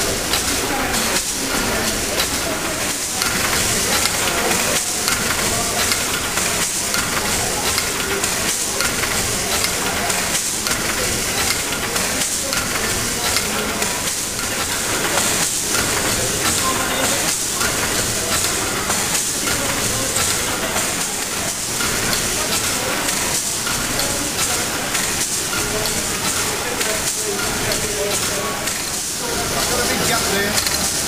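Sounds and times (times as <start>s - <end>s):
steam engine running: 0.0s - 31.0s.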